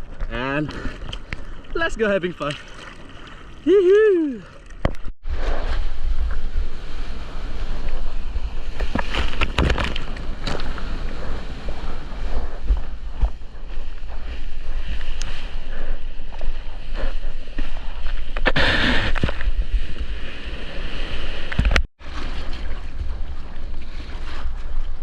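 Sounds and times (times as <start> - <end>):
sea water sloshing and splashing: 0.0 - 25.0.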